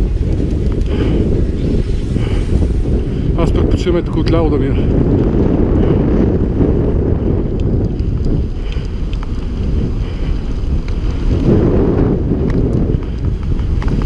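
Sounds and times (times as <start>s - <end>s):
bike clicks and rattles: 0.0s - 3.3s, 4.2s - 14.0s
wind rumble on microphone: 0.0s - 14.0s.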